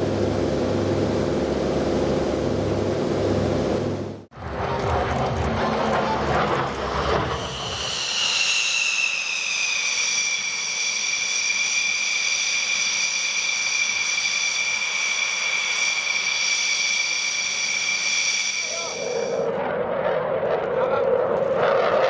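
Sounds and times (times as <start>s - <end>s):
jet engine whining: 0.0s - 22.0s.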